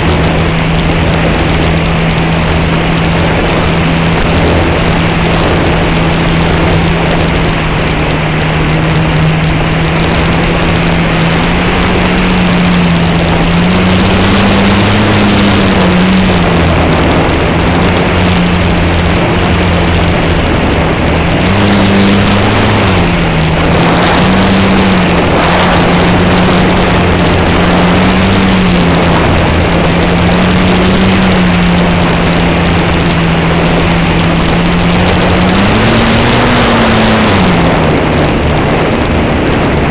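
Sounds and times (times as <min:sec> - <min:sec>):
wind rush: 0:00.0 - 0:39.9.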